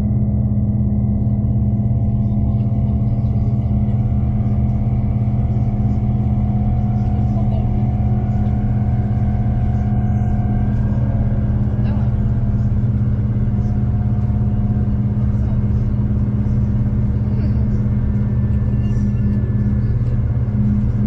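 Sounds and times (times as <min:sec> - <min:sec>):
train interior drone: 0:00.0 - 0:21.0.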